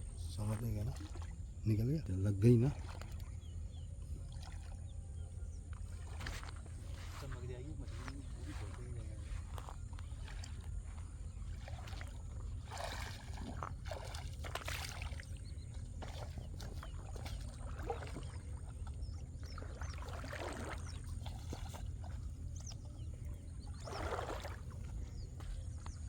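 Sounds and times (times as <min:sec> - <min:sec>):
steady low rumble: 0:00.0 - 0:20.0, 0:20.7 - 0:26.0
water splashing and sloshing: 0:00.0 - 0:26.0.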